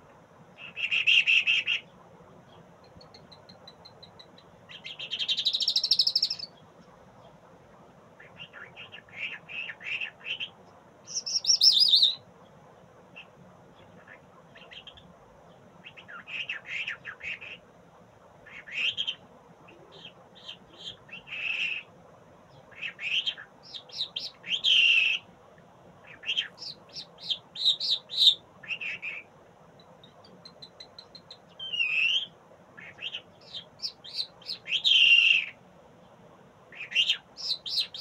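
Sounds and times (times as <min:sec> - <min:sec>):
songbird chirping and trilling: 0:00.6 - 0:38.0.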